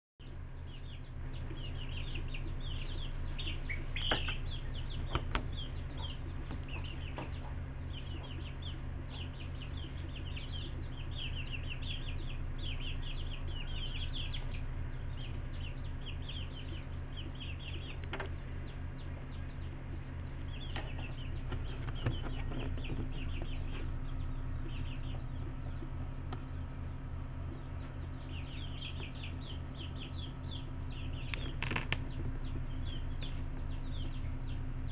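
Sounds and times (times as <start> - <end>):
chicks peeping: 0.2 - 34.9
low electrical hum: 0.2 - 34.9.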